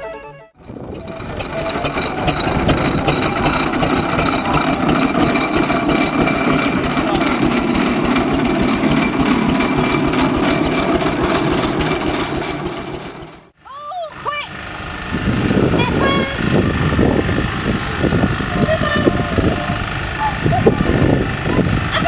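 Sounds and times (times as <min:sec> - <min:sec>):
engine idling: 0:00.6 - 0:22.0.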